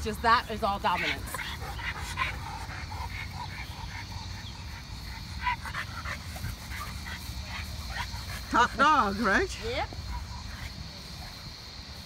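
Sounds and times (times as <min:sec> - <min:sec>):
dogs breathy sounds: 0:00.8 - 0:11.6.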